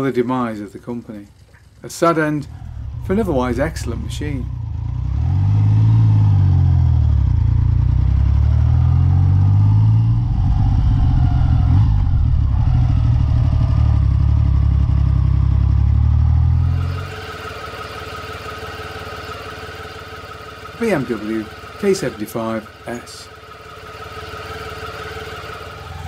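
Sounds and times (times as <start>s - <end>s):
motorcycle engine running: 1.6s - 26.0s.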